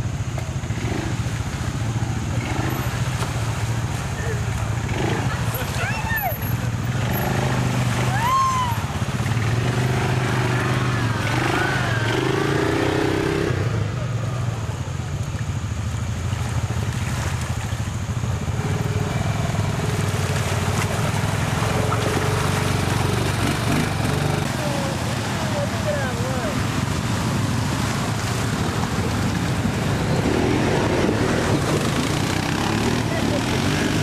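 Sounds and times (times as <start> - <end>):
atv engines running at low speed: 0.0 - 34.0.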